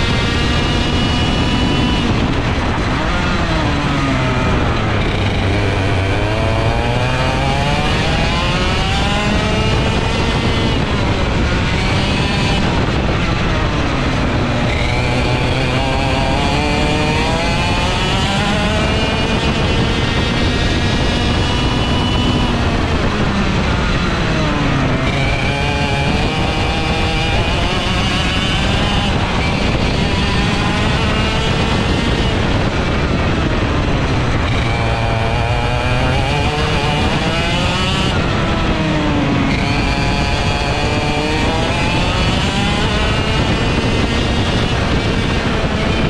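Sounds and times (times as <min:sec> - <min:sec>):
kart engine revving: 0:00.0 - 0:46.0.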